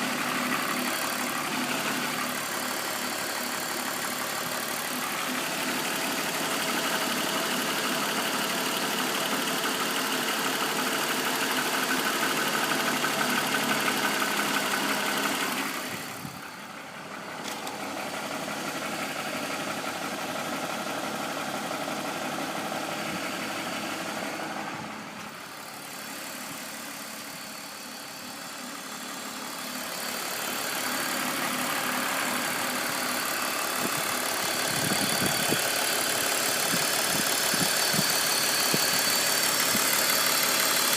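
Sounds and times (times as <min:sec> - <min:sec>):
car engine idling: 0:00.0 - 0:40.9
engine knocking: 0:00.0 - 0:40.9.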